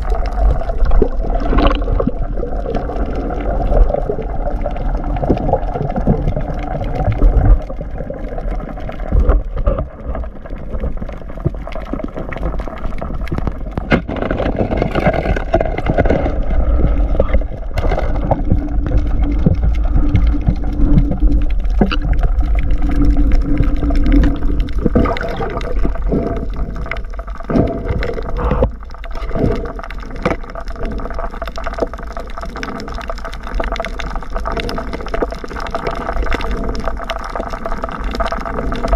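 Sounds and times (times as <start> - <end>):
low underwater rumble: 0.0 - 38.9
water rushing and gurgling: 0.0 - 38.9.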